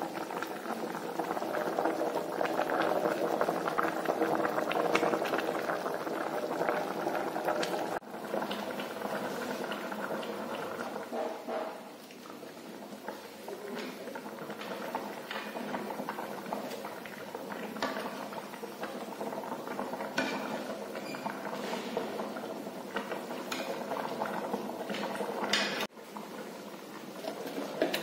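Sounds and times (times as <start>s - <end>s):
stew bubbling in a wok: 0.0s - 28.0s.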